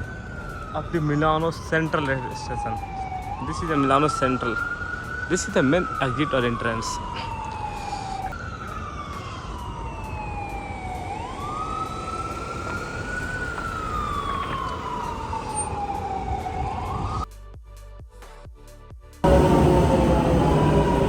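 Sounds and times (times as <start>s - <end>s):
street noise: 0.0s - 17.2s, 19.2s - 21.0s
emergency vehicle siren wailing: 0.0s - 17.3s, 19.2s - 21.0s.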